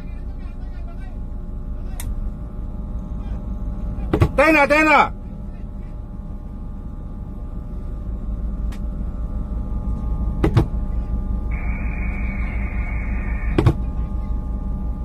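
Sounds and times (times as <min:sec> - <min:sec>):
boat engine running: 0:00.0 - 0:15.0
steady high whine: 0:00.1 - 0:15.0.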